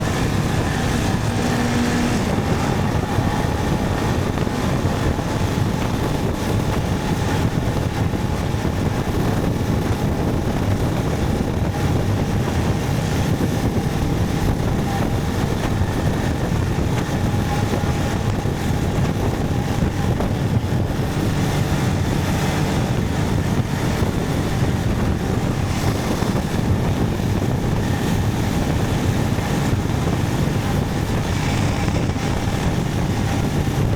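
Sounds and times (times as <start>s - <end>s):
motorcycle engine: 0.0s - 33.9s
road noise: 0.0s - 33.9s
wind buffeting microphone: 0.0s - 33.9s.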